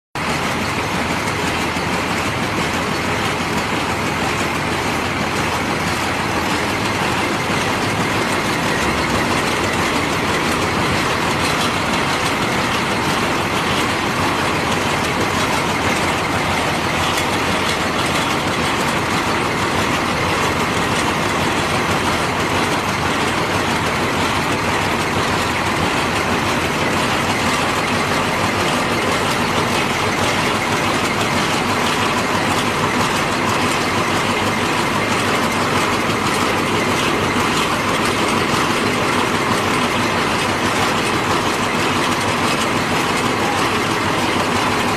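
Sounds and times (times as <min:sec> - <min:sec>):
stone pulverizer machine rattling: 0:00.2 - 0:44.9.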